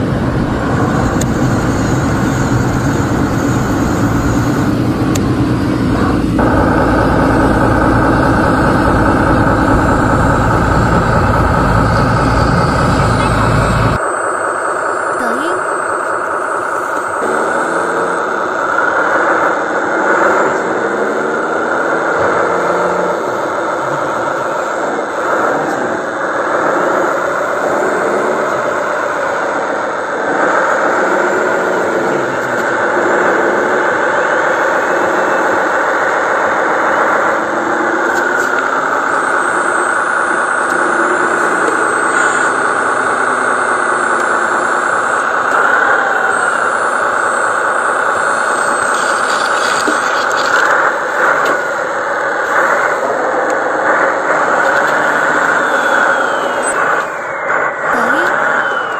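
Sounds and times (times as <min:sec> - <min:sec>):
model truck mechanical whine: 0:00.0 - 0:58.9.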